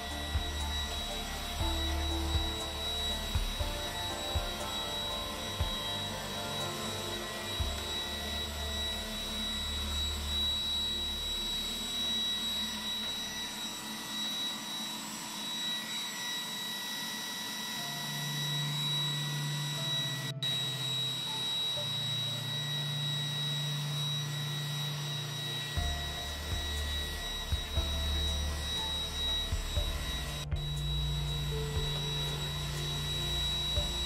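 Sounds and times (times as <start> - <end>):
robot vacuum whining: 0.0 - 34.0.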